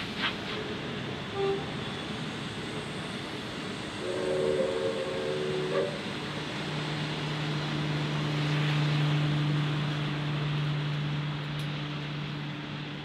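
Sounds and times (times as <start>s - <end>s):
train carriages rumbling on rails: 0.0s - 13.0s.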